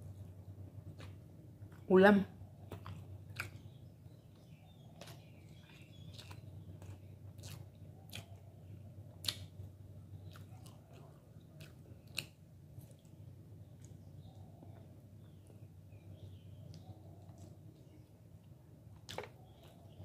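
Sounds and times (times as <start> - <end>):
steady low hum: 0.0 - 20.0
wet chewing: 0.8 - 1.9, 2.5 - 20.0.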